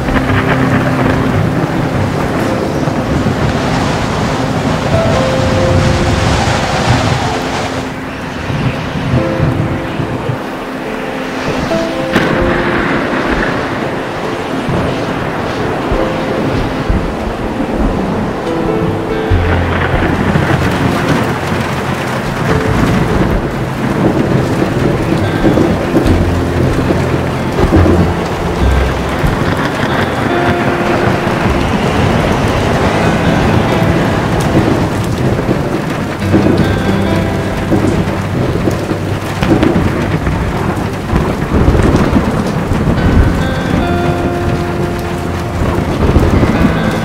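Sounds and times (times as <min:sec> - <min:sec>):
heavy rain falling: 0:00.0 - 0:47.0
low rolling thunder: 0:00.0 - 0:47.0.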